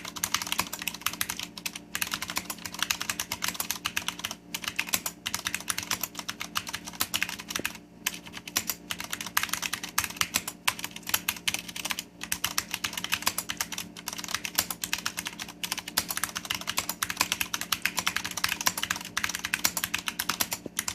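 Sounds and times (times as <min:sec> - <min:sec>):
fast mechanical keyboard typing: 0:00.0 - 0:20.9.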